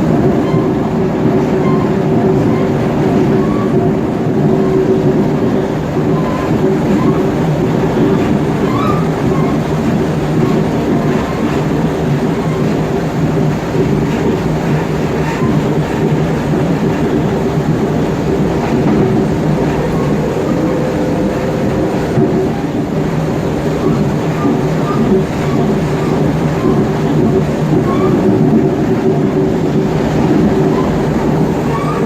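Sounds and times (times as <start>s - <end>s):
train traction motors humming: 0.0s - 32.0s
train wheels rolling: 0.0s - 32.0s.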